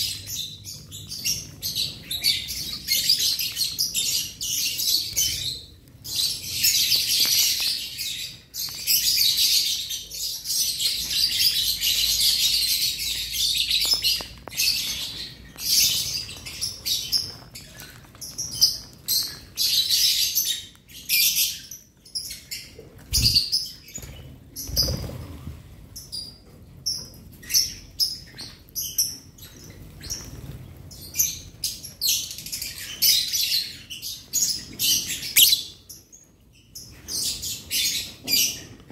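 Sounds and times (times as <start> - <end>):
birds chattering with shrill chirps: 0.0 - 38.9.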